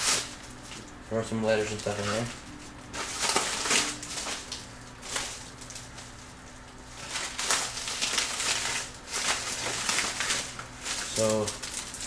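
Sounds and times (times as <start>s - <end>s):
paper and packaging rustling: 0.0s - 12.0s.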